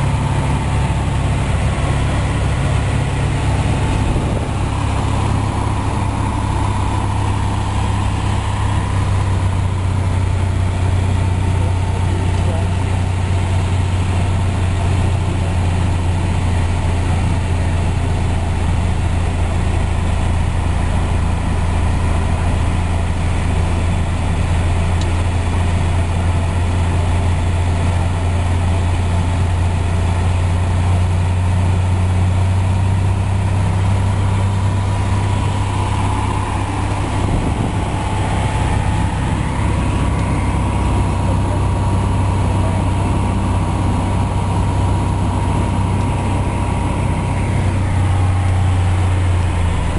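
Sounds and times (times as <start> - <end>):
propeller plane engine droning: 0.0 - 49.9.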